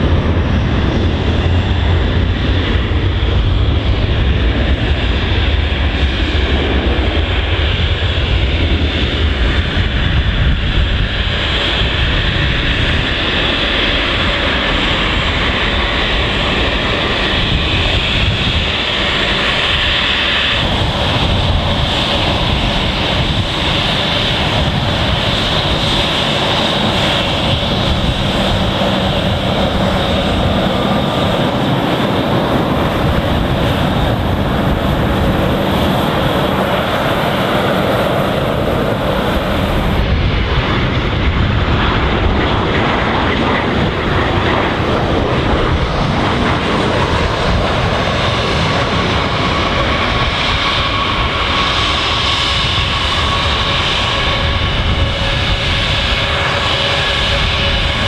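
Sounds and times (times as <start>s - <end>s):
distant jet rolling on runway: 0.0s - 58.0s
jet engines running: 0.0s - 58.0s
jet taxiing close by: 0.0s - 58.0s.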